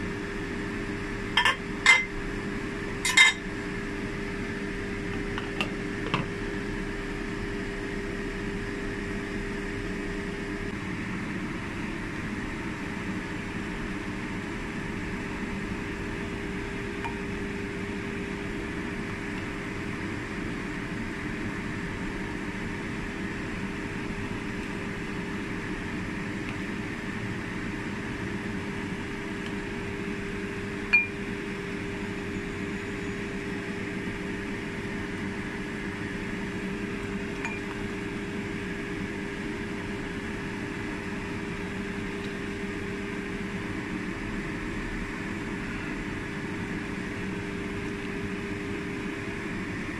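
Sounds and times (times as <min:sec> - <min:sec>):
kitchen appliance hum: 0:00.0 - 0:49.9.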